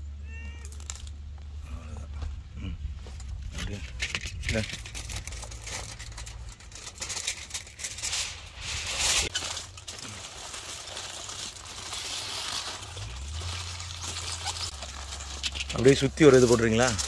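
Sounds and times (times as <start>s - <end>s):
aluminium foil crinkling: 3.3s - 17.0s.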